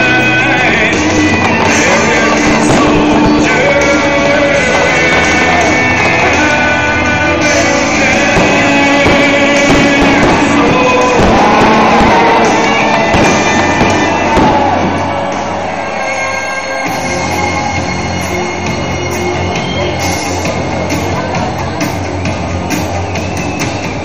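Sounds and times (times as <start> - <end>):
rock song with singing: 0.0 - 23.9.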